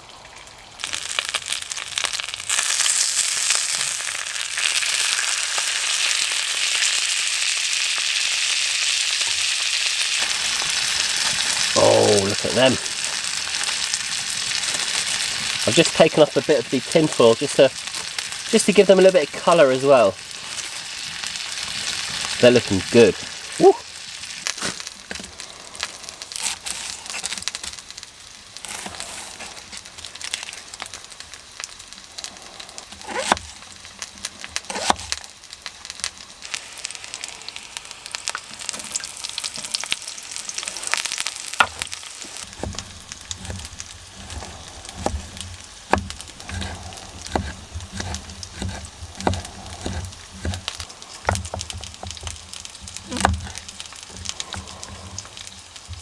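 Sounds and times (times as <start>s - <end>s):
sausages sizzling in a pan: 0.0s - 56.0s.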